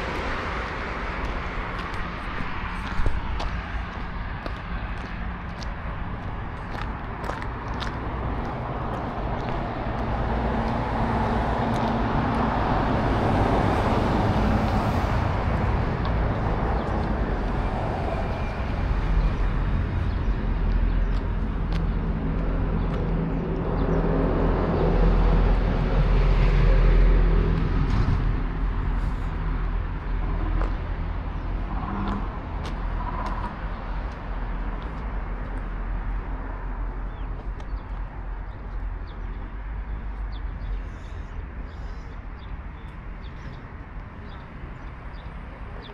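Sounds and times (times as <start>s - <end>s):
road traffic rumbling: 0.0s - 45.9s.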